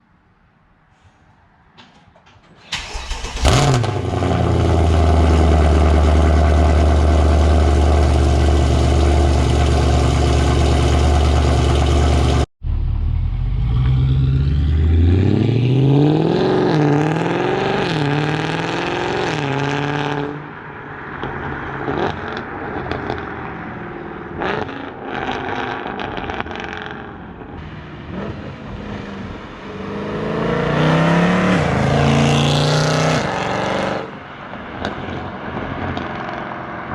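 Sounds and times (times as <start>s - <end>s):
car engine idling and revving: 2.7s - 36.9s.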